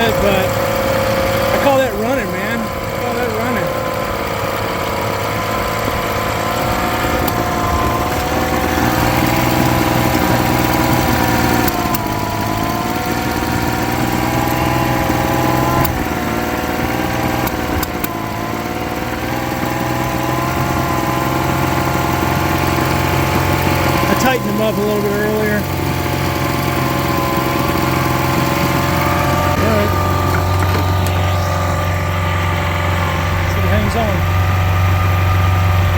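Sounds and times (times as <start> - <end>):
outboard motor idling: 0.0 - 35.9.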